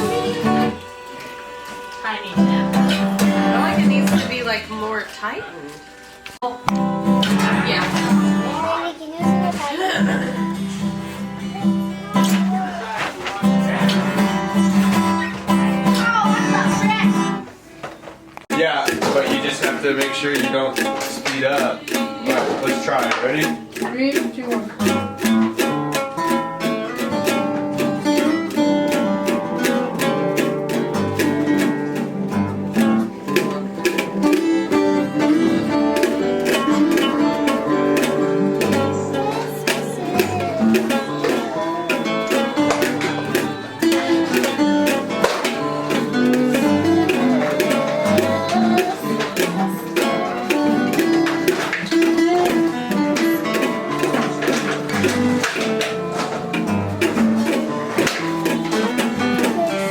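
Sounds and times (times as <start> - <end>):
plucked string instrument music: 0.0 - 59.9.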